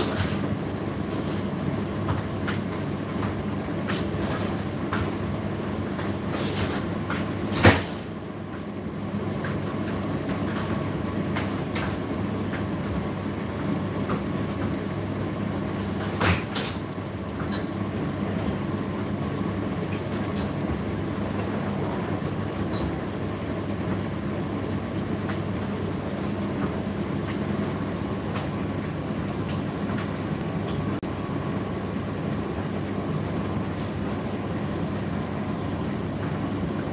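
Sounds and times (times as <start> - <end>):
tumble dryer humming: 0.0 - 36.9.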